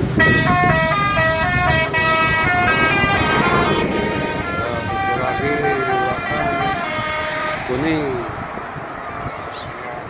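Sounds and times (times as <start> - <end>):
multi-tone musical bus horn: 0.0 - 8.2
road and engine noise: 0.0 - 10.0.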